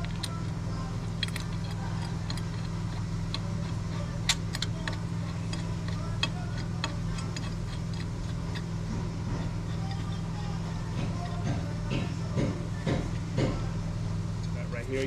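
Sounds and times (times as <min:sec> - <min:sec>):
tools clicking on metal: 0:00.0 - 0:13.5
steady low hum: 0:00.0 - 0:15.0.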